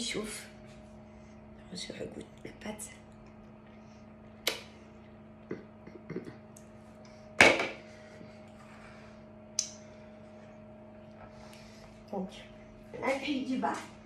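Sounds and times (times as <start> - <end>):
fan oven humming: 0.0 - 14.0.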